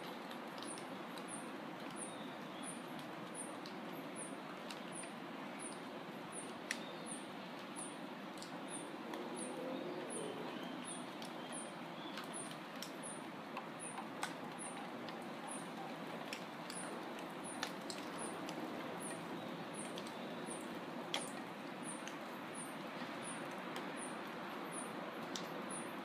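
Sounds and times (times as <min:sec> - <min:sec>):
wind rustling through leaves: 0:00.0 - 0:26.0.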